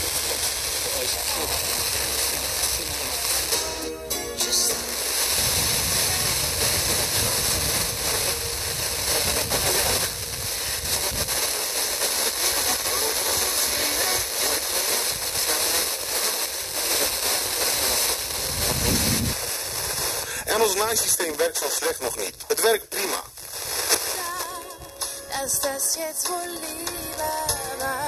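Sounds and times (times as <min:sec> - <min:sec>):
faint radio program audio: 0:00.0 - 0:19.0, 0:20.4 - 0:28.0
radio static hiss: 0:00.0 - 0:28.0.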